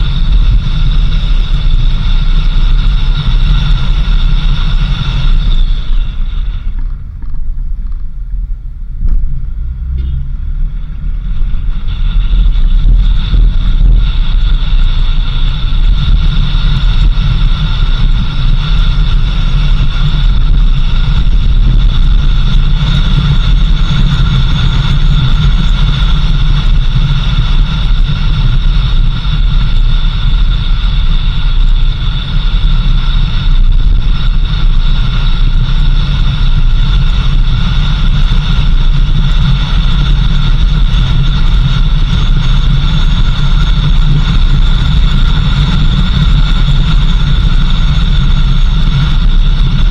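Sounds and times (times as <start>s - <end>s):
steady high-pitched tones: 0.0s - 49.9s
vehicle engine and road rumble: 0.0s - 49.9s.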